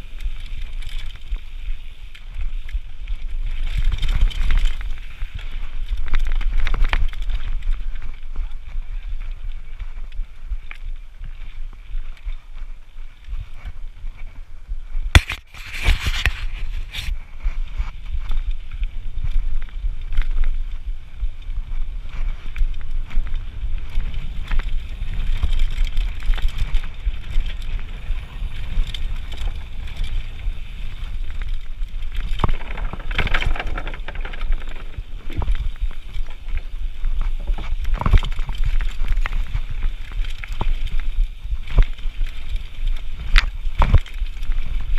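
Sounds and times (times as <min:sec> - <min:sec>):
bike clattering over rough ground: 0:00.0 - 0:44.9
bike rattle: 0:00.0 - 0:44.9
bike tyres rumbling on gravel: 0:00.0 - 0:44.9
wind on microphone: 0:00.0 - 0:44.9.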